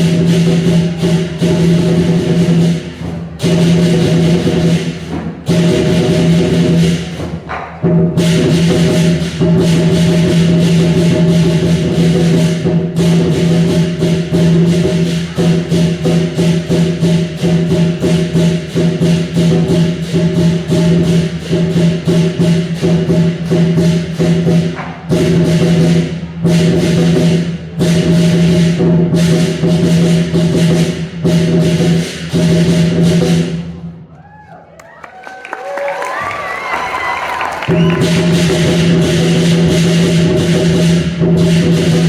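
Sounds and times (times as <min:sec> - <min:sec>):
drum strikes: 0:00.0 - 0:33.9, 0:36.0 - 0:42.0.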